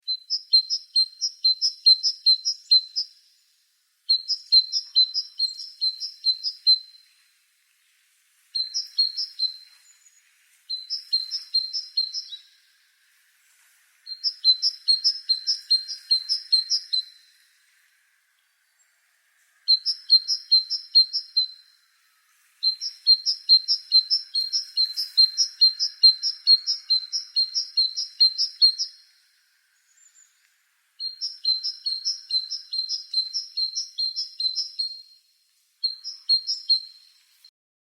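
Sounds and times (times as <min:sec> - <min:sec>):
bird chirping: 0:00.0 - 0:13.0, 0:14.1 - 0:35.2, 0:35.8 - 0:37.5.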